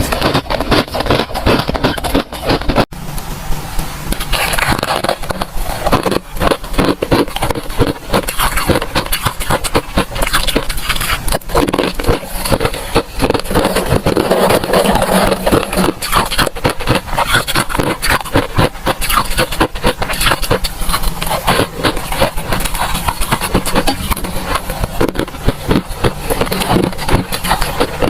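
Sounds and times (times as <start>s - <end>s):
freezer frost crunching: 0.0s - 2.9s, 4.1s - 28.0s.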